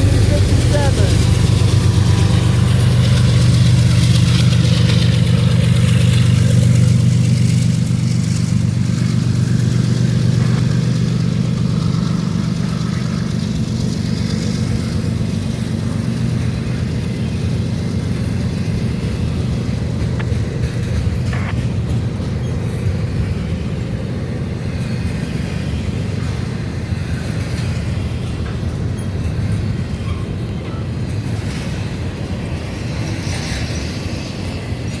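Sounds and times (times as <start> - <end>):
diesel locomotive engine droning: 0.0 - 35.0.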